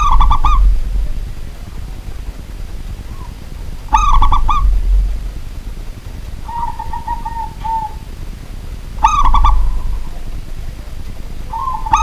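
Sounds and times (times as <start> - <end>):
dove cooing: 0.0 - 5.6, 6.2 - 12.0.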